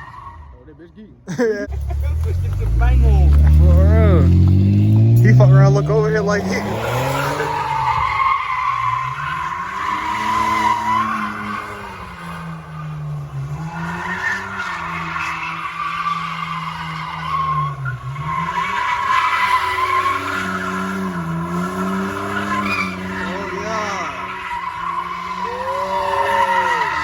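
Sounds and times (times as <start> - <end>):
tires squealing: 0.0 - 27.0
car engine revving: 1.6 - 27.0.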